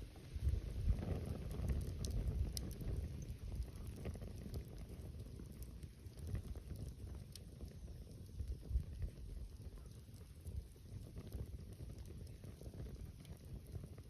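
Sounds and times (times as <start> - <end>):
campfire crackling: 0.0 - 14.0
wind rumble on microphone: 0.0 - 14.0.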